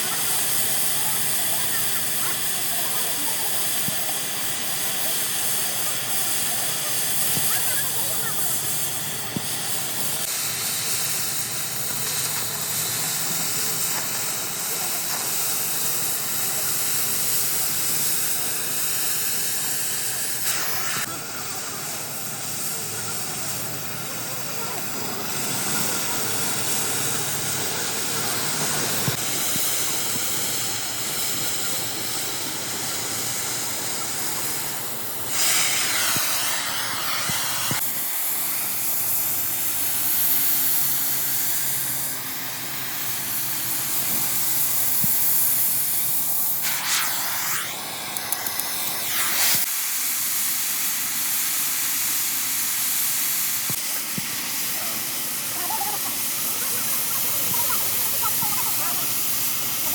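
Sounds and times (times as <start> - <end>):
steady hissing: 0.0 - 59.9.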